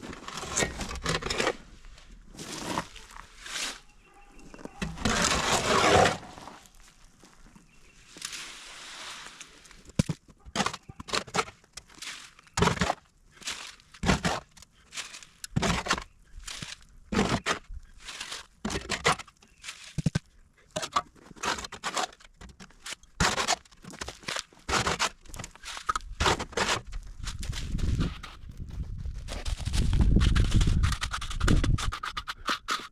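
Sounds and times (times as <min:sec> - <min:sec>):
hand tool scraping gritty material: 0:00.0 - 0:07.0, 0:10.5 - 0:32.9.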